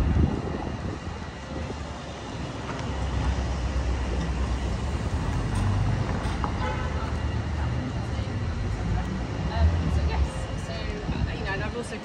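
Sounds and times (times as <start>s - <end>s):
street traffic engines: 0.0s - 12.0s.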